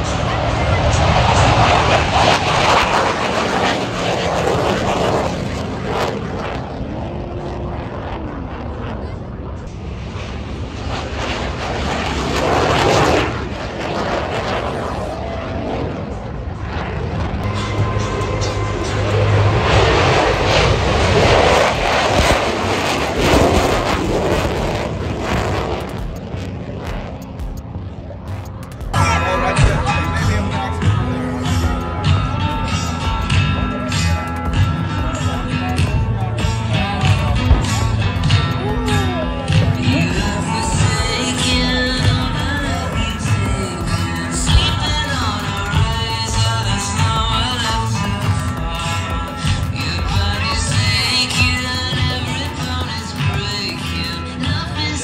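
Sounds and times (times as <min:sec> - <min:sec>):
jet aircraft roar: 0:00.0 - 0:55.0.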